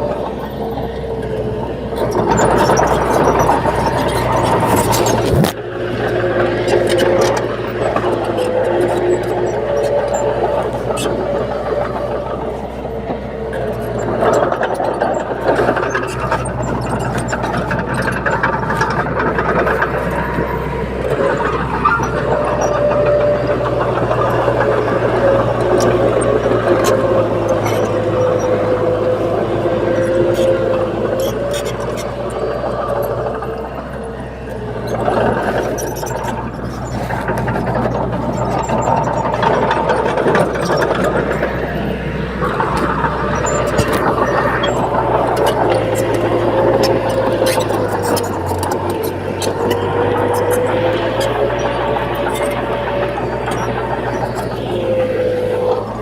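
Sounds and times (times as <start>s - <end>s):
bulldozer diesel engine running: 0.0s - 56.0s
steel tracks clanking and rattling: 0.0s - 56.0s.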